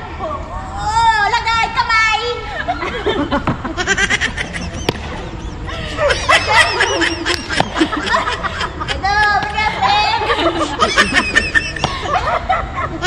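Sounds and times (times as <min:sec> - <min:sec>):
women laughing: 0:02.4 - 0:13.0.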